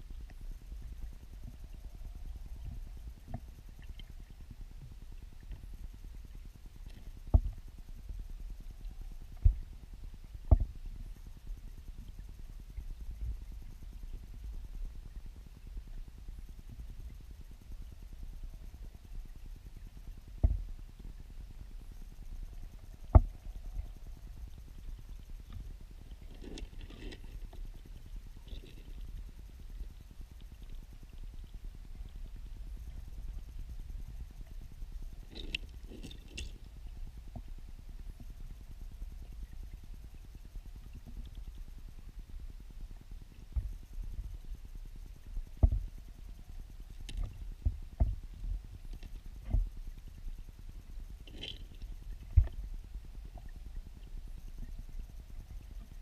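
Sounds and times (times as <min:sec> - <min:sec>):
muffled underwater rumble: 0:00.0 - 0:56.0.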